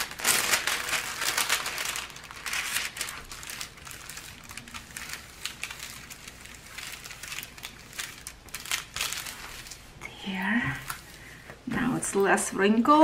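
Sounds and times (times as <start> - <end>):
plastic film crinkling: 0.0 - 11.3.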